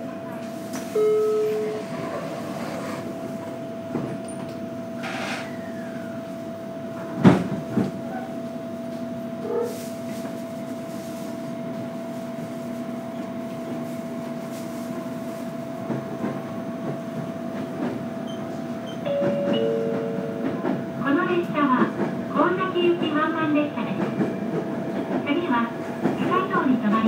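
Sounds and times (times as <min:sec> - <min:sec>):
train running hum: 0:00.0 - 0:27.0.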